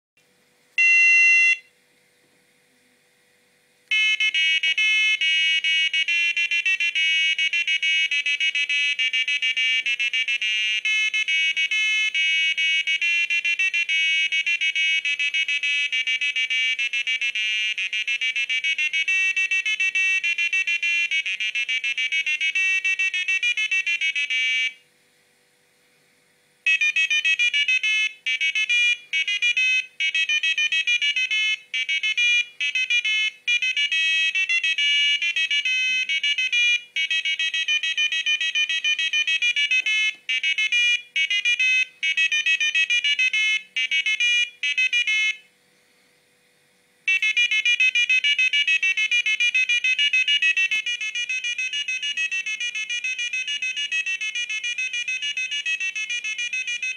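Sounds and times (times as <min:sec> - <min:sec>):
electronic alarm melody: 0:00.8 - 0:01.7, 0:03.9 - 0:24.8, 0:26.7 - 0:45.5, 0:47.1 - 0:56.9
electronic buzzer beep: 0:00.8 - 0:01.7, 0:03.9 - 0:24.8, 0:26.7 - 0:45.5, 0:47.1 - 0:56.9.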